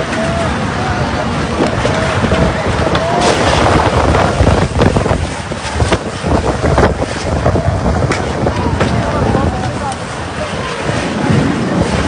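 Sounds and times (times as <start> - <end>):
heavy rain pouring: 0.0 - 12.0
wind buffeting microphone: 0.0 - 12.0.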